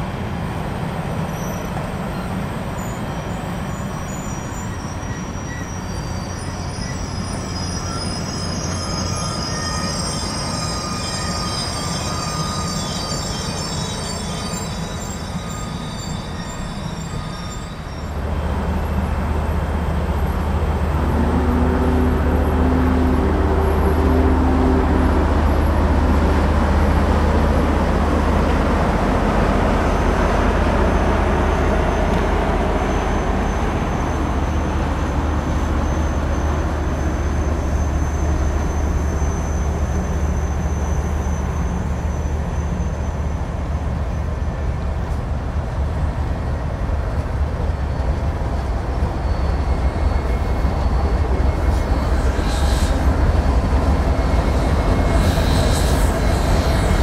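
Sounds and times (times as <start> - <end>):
diesel locomotive engines droning: 0.0 - 57.0
train rumbling: 0.0 - 57.0
train wheels squealing on rails: 0.0 - 57.0.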